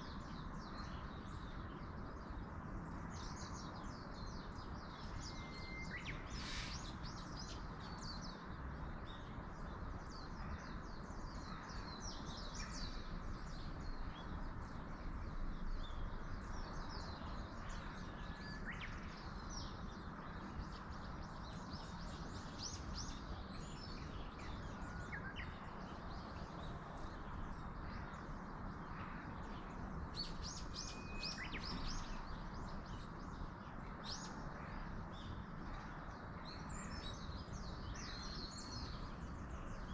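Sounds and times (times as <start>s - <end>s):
wind in trees: 0.0s - 39.9s.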